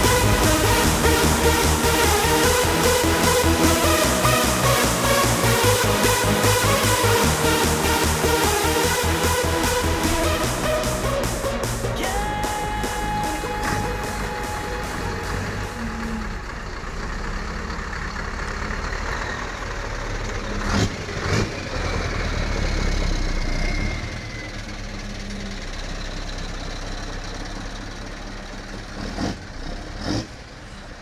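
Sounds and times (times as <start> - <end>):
truck diesel engine passing: 0.0 - 31.0.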